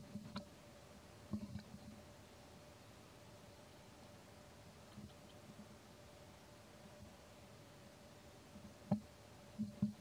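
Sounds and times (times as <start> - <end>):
faint steady hiss: 0.0 - 10.0
faint steady hum: 0.0 - 10.0.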